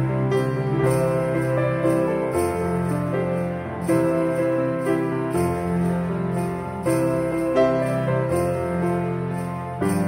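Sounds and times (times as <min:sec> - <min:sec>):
festive music with sustained notes: 0:00.0 - 0:10.0
jingle bells shaken: 0:00.0 - 0:10.0.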